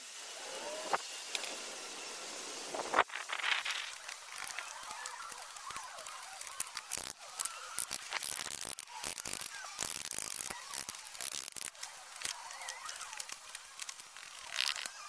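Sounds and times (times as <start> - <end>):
gravel and stone scraping: 2.7 - 15.0.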